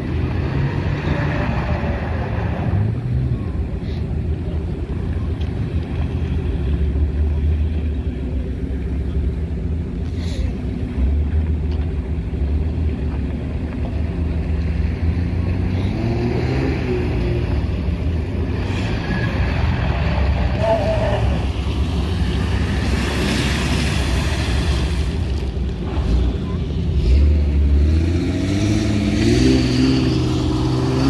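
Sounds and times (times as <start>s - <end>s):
engine rumbling and revving: 0.0s - 31.0s.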